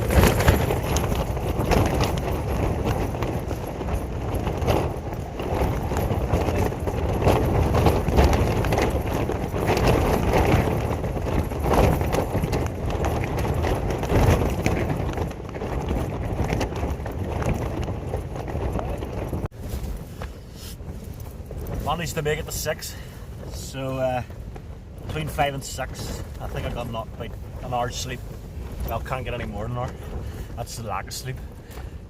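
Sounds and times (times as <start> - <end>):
tent fabric flapping: 0.0 - 32.0
wind gusting over a tent: 0.0 - 32.0
wind rumble on microphone: 0.0 - 32.0.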